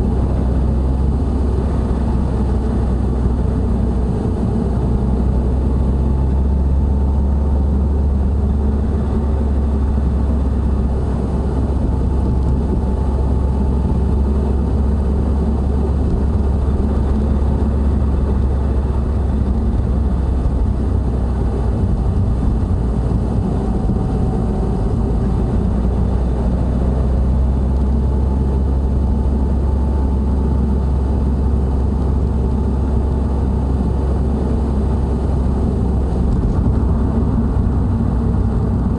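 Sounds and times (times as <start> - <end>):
low drone in car cabin: 0.0 - 38.9
road noise: 0.0 - 38.9.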